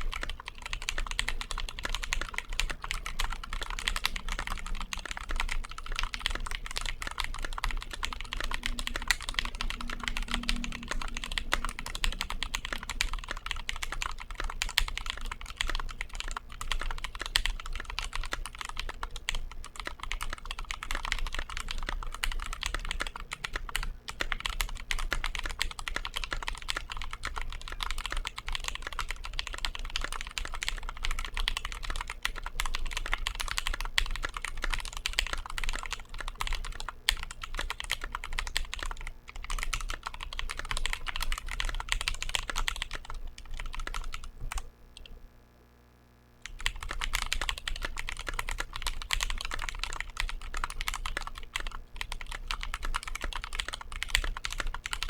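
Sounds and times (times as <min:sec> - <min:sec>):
mechanical keyboard typing: 0:00.0 - 0:45.1, 0:46.4 - 0:55.0.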